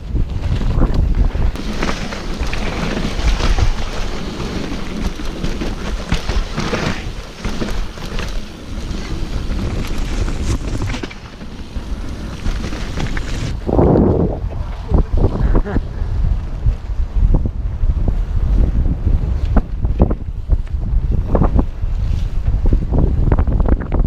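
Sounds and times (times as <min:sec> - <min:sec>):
bike rattling over bumps: 0:00.0 - 0:24.0
tyre noise on dirt: 0:00.0 - 0:24.0
wind buffeting microphone: 0:00.0 - 0:24.0.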